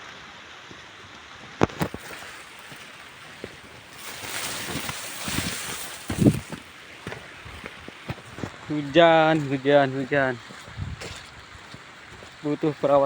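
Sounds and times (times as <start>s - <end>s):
wind: 0.0s - 13.0s
rain falling: 1.6s - 13.0s.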